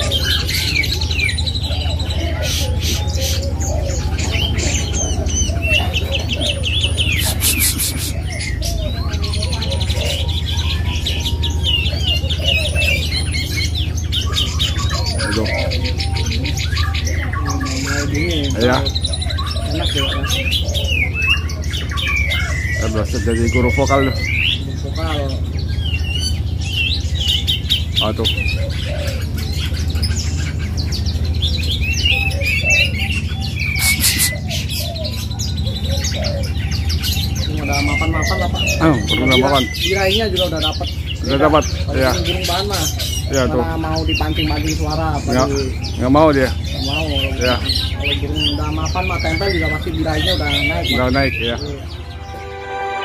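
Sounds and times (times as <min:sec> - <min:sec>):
songbirds chirping and trilling: 0:00.0 - 0:53.0
steady low hum: 0:00.0 - 0:53.0.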